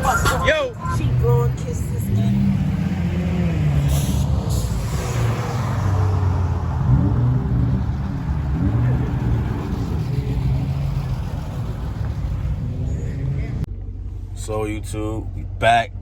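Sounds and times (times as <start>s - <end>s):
car engine revving: 0.0s - 16.0s
car engines running: 0.0s - 16.0s.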